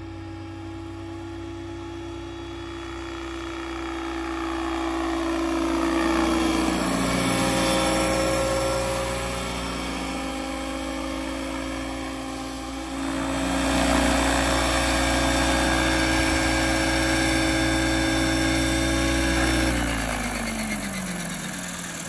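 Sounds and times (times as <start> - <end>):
model helicopter motor and rotors: 0.0 - 22.0.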